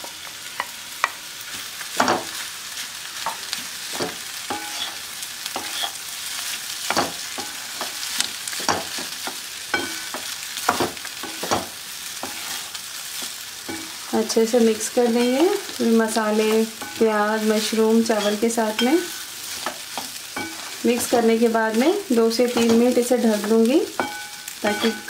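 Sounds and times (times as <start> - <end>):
food sizzling: 0.0 - 25.0
metal spoon scraping a pan: 3.2 - 25.0.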